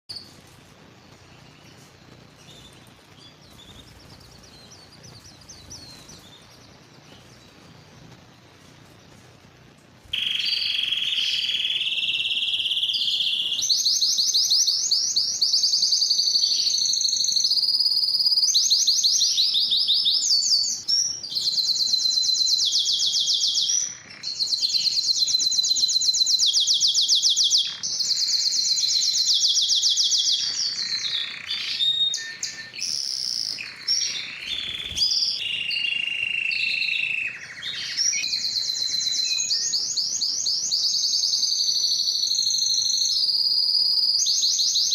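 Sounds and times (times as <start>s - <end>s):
canary singing trills: 0.1s - 44.9s.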